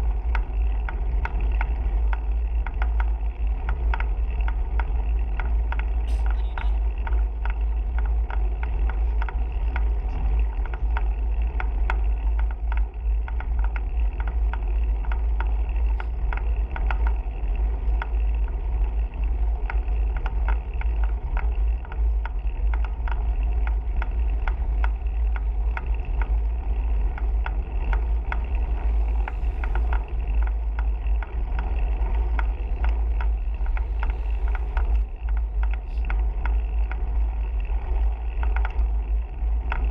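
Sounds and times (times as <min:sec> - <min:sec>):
bicycle tyre and road noise: 0:00.0 - 0:39.9
small clicks and rattles: 0:00.0 - 0:39.9
wind buffeting microphone: 0:00.0 - 0:39.9.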